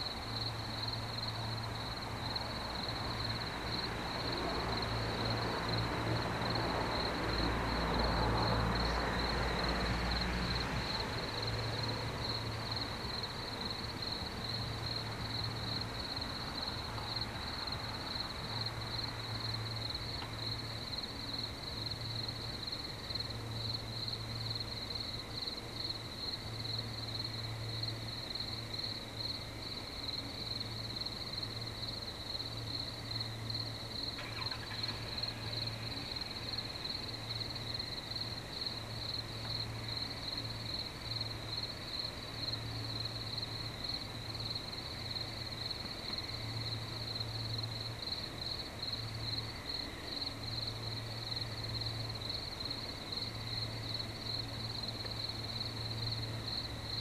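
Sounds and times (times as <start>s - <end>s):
night insect chorus: 0.0s - 57.0s.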